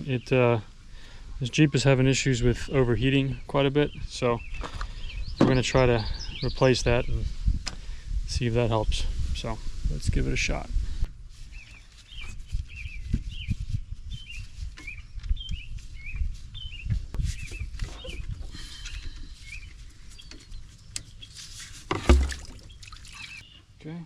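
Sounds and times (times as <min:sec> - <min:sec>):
bird chirping: 0:00.0 - 0:07.2, 0:11.5 - 0:24.0.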